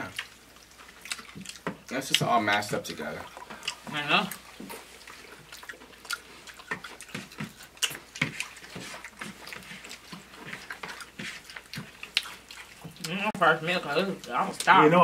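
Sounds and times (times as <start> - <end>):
people chewing and crunching chips: 0.0 - 15.0.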